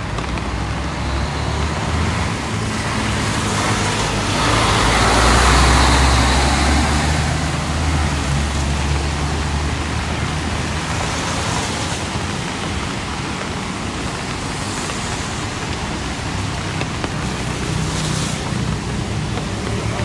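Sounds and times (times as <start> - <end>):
rain and tyres hissing: 0.0 - 20.0
vehicle engine humming: 0.0 - 20.0.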